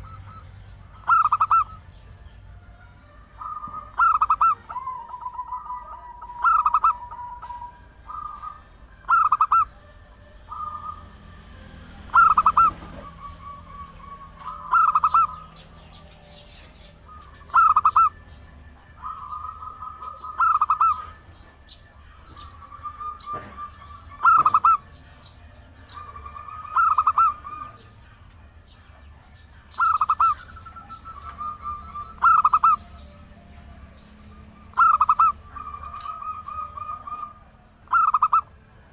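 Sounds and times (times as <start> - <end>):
dove cooing: 0.0 - 28.3, 28.9 - 38.9.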